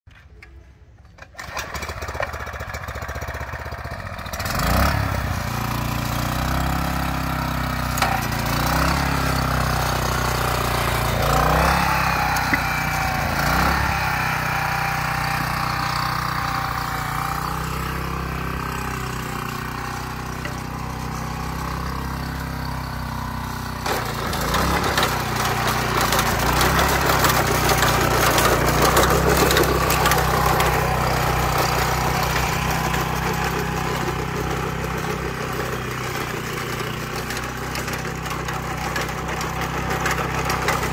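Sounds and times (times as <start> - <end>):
small petrol engine running: 1.1 - 40.9.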